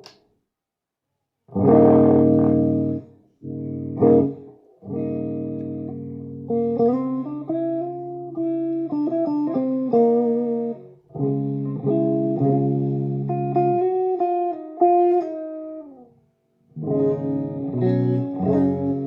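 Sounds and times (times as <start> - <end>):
electric guitar chords and notes: 1.5 - 19.0.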